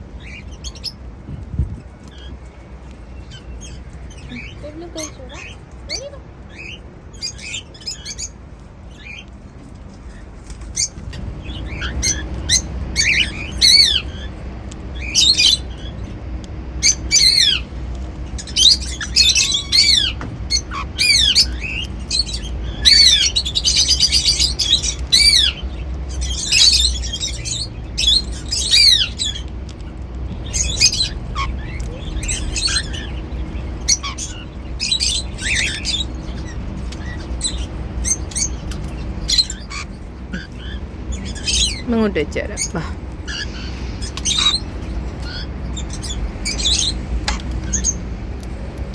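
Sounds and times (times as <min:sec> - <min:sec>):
cockatiels chirping and whistling: 0:00.2 - 0:01.0, 0:03.1 - 0:08.3, 0:10.8 - 0:41.9, 0:42.6 - 0:48.0.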